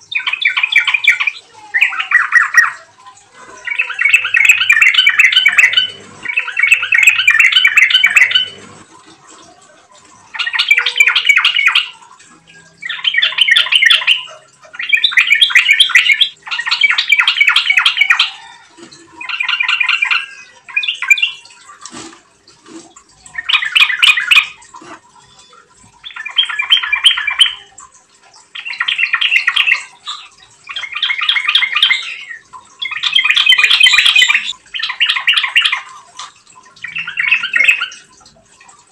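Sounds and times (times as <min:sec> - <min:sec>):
bird singing chattering phrases: 0:00.0 - 0:38.9.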